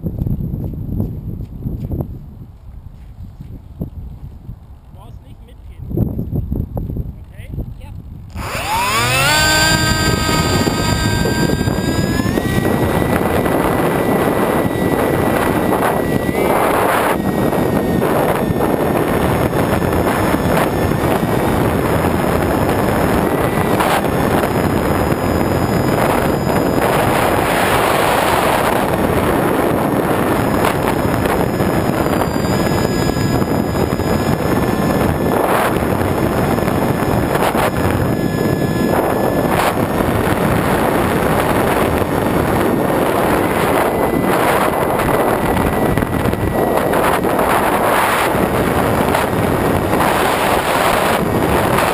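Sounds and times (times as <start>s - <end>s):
wind rushing over microphone: 0.0s - 51.9s
electric motor and propeller whine: 8.1s - 51.9s.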